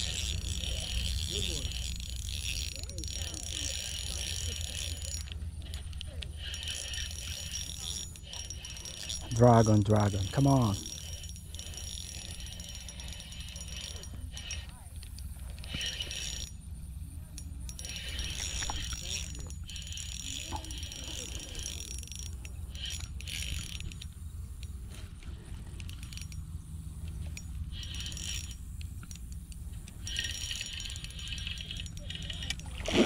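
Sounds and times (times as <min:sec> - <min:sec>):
fishing reel gears whirring: 0:00.0 - 0:33.0.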